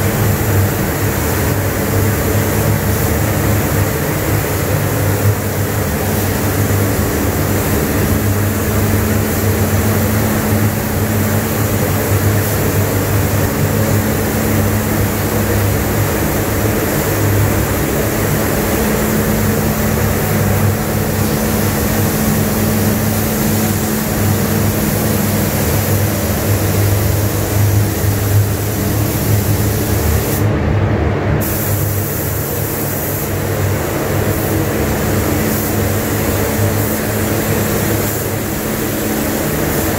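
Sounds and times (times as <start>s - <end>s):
ventilation fans air rush: 0.0s - 39.9s.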